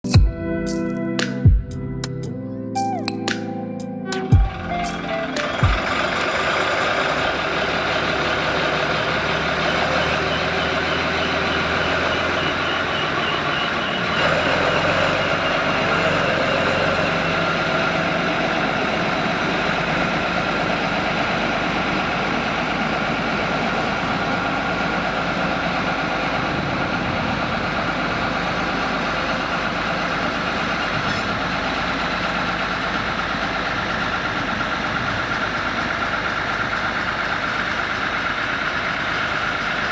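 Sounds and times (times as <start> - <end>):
diesel railway engine running: 0.0 - 39.9.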